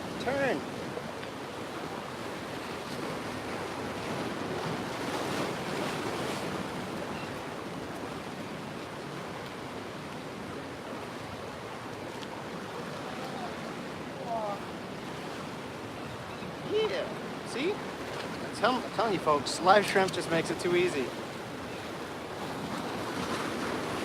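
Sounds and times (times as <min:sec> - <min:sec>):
sea waves washing: 0:00.0 - 0:24.0.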